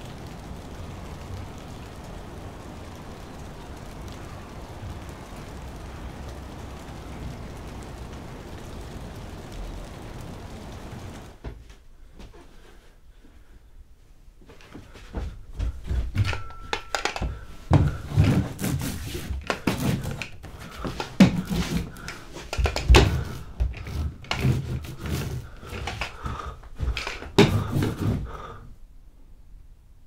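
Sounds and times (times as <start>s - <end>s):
lint roller crackling on wooden floor: 0.0s - 12.9s, 14.4s - 28.5s.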